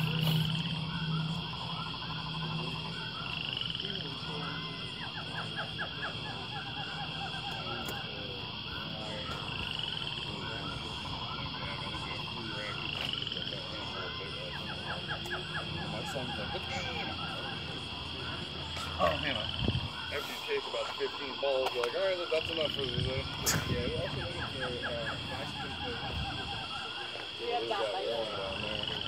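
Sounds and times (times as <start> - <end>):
small animal chirps and trills: 0.0 - 29.0.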